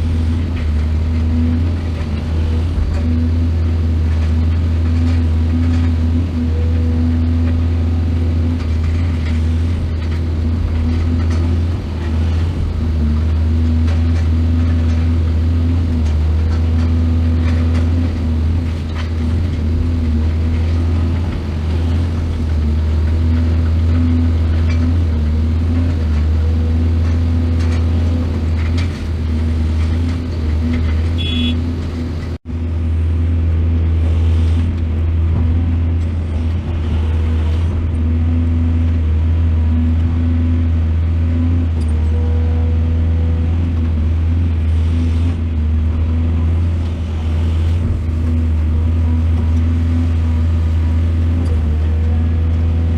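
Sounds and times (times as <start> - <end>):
excavator engine running: 0.0 - 52.9.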